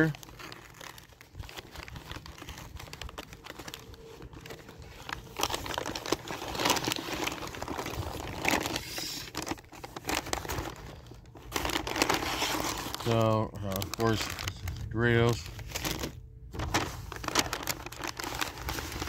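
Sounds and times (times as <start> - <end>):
paper crinkling: 0.0 - 19.0.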